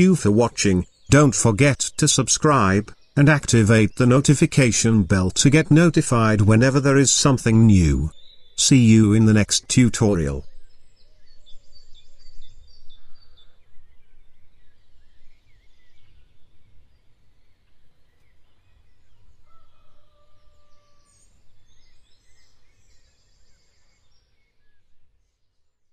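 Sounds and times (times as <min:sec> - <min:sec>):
birds chirping and trilling: 0:00.0 - 0:25.7.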